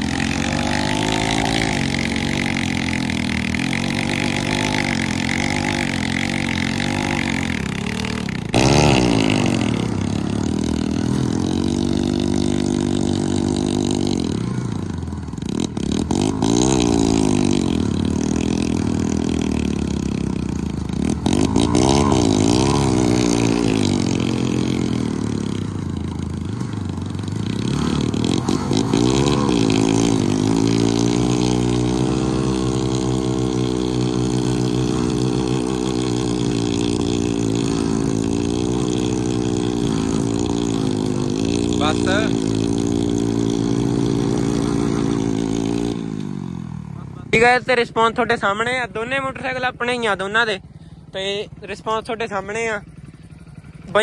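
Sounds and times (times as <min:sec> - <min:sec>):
motorcycles revving hard: 0:00.0 - 0:54.0.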